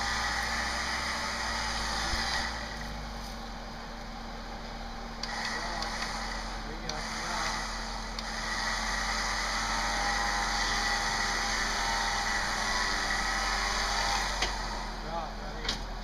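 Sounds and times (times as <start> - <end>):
electric winch whining: 0.0 - 3.1, 5.0 - 15.6.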